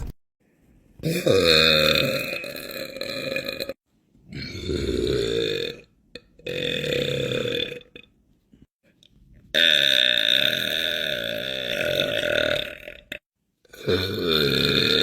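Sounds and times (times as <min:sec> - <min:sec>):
man burping: 0:01.0 - 0:08.1, 0:09.6 - 0:15.0.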